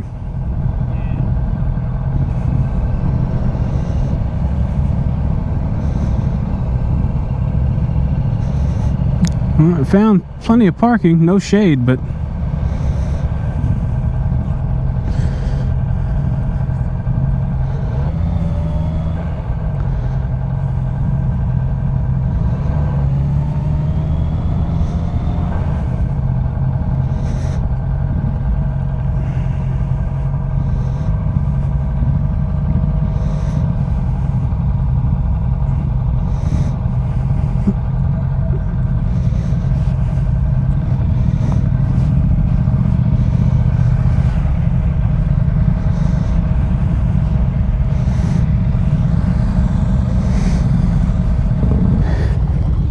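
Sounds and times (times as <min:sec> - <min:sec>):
motorcycle engine rumbling: 0:00.0 - 0:52.9.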